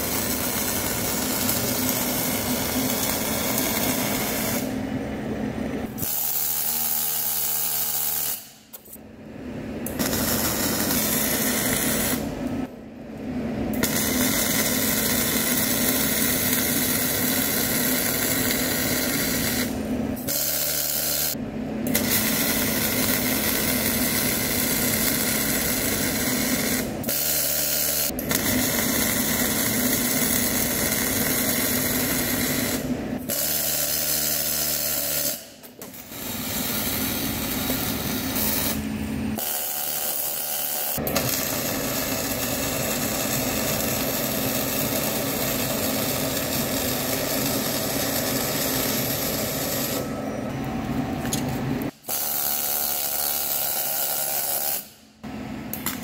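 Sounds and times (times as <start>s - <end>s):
welding arc crackling and buzzing: 0.0s - 4.8s, 5.8s - 9.0s, 9.8s - 12.7s, 13.7s - 50.1s, 51.2s - 54.9s.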